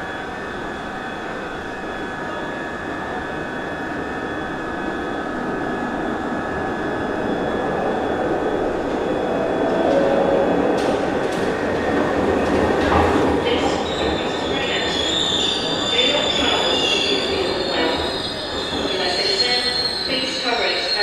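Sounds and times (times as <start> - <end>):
subway train rumble with motor whine: 0.0 - 21.0.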